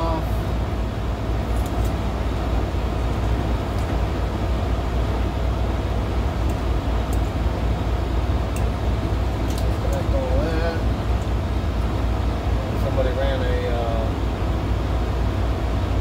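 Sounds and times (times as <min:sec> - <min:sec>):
low machinery drone: 0:00.0 - 0:16.0.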